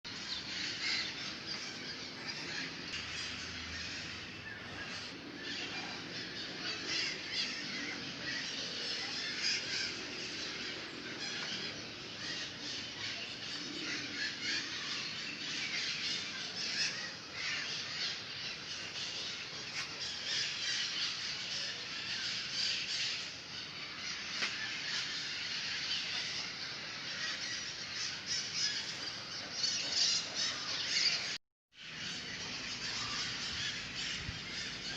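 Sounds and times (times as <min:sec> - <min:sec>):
chorus of birds chirping: 0:00.1 - 0:34.9.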